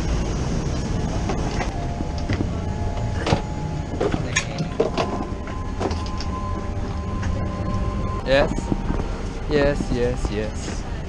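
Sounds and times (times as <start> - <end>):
faint steady whine: 0.0 - 11.0
low mechanical rumble: 0.0 - 11.0.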